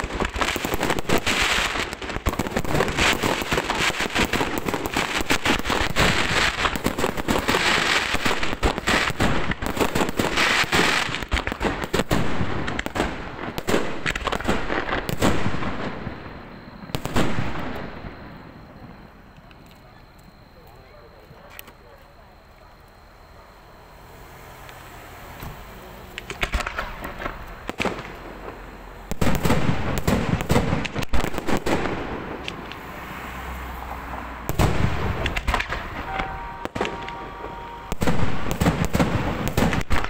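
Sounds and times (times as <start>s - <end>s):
loud firework bangs: 0.0s - 19.0s, 25.3s - 40.0s
fireworks bursting and crackling: 0.0s - 40.0s.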